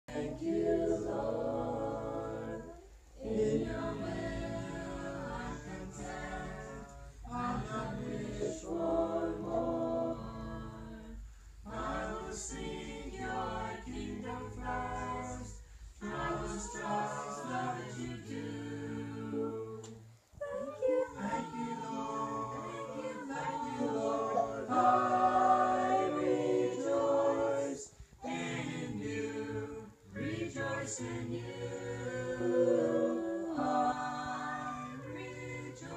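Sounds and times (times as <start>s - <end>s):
group singing unaccompanied: 0.0s - 35.9s.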